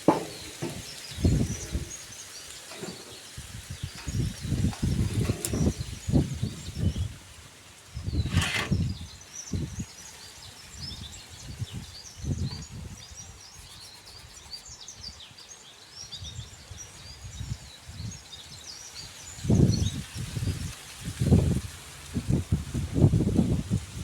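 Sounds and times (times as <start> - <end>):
small birds chirping: 0.0 - 20.6.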